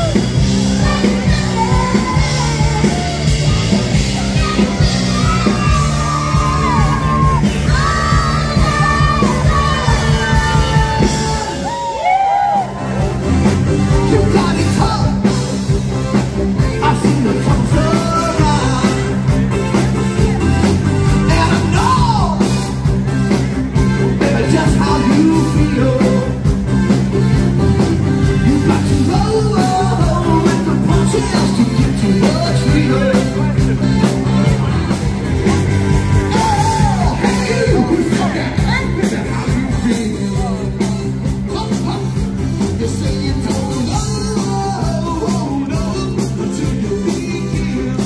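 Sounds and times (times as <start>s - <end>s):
person singing lead vocal: 0.0s - 13.2s, 13.8s - 15.8s, 16.6s - 22.8s, 24.0s - 26.6s, 28.2s - 48.0s
live rock band playing: 0.0s - 48.0s.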